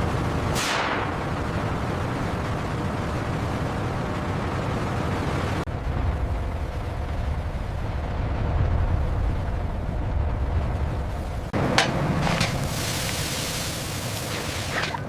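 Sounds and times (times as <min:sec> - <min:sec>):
heavy industrial machinery rumble: 0:00.0 - 0:15.0.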